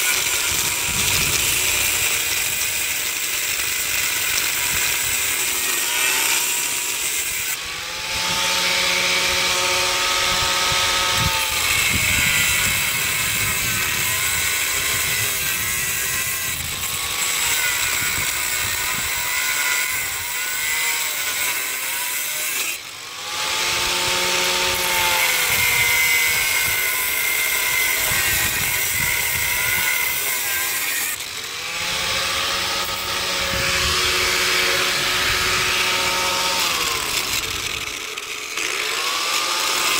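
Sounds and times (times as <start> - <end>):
angle grinder cutting steel pipe: 0.0 - 39.9.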